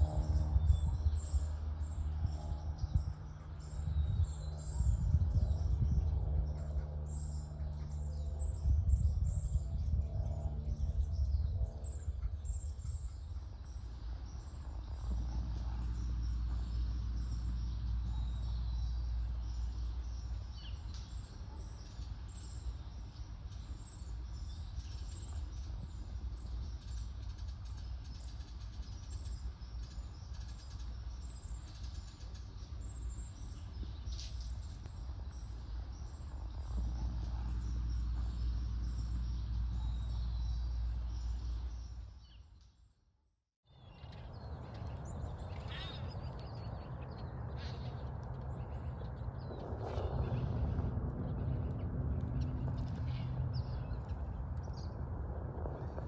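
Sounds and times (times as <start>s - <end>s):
steady low rumble: 0.0s - 42.7s, 43.8s - 56.0s
small birds chirping: 0.0s - 42.9s, 43.7s - 55.0s.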